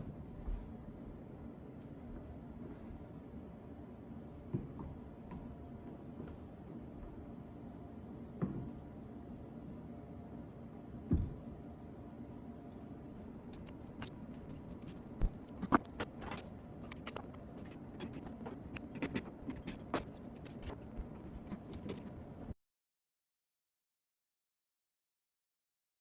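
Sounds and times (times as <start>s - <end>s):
steady low hum: 0.0s - 22.6s.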